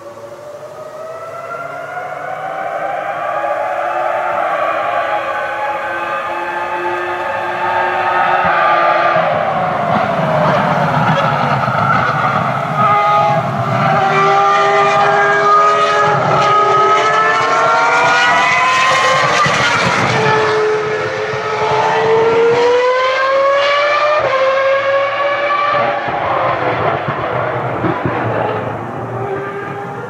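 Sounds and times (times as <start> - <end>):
racing car engine accelerating: 0.0 - 30.0.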